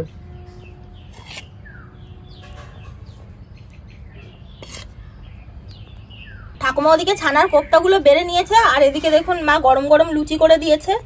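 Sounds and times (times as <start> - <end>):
faint birds chirping: 0.0 - 10.8.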